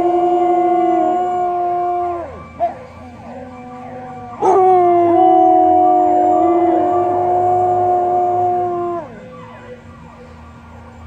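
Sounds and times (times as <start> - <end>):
dogs howling: 0.0 - 9.8.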